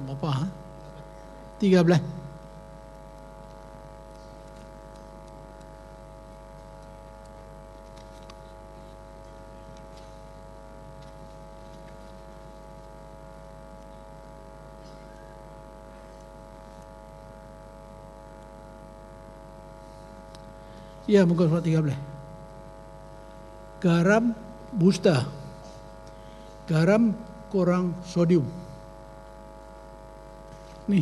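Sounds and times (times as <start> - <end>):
electrical hum and buzz: 0.0 - 31.0.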